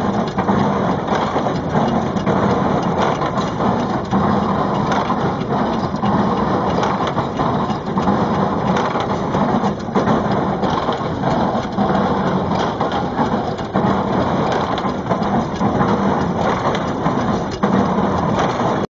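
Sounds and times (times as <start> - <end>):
baler clattering and rumbling: 0.0 - 18.9.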